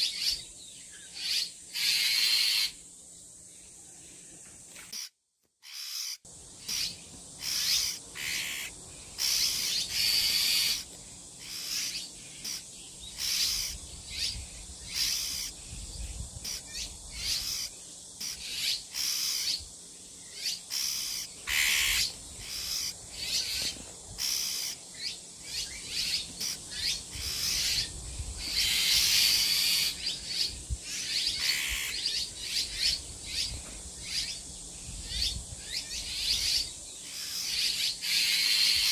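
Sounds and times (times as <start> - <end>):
shrikes harsh hissing calls: 0.0 - 38.9.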